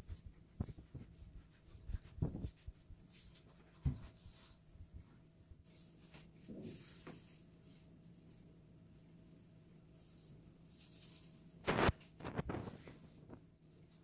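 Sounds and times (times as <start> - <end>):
soft scratching and rustling: 0.0 - 14.0.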